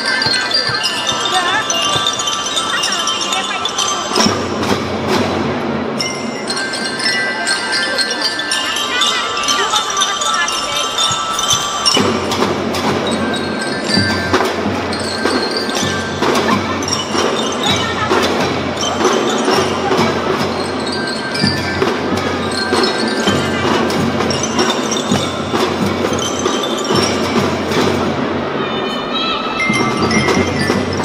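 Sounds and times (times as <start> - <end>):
drum band playing a march: 0.0 - 7.1, 10.4 - 28.6, 29.5 - 31.0
marching drums: 0.0 - 7.2, 10.5 - 28.6, 29.4 - 31.0
bell-lyre notes: 0.0 - 31.0.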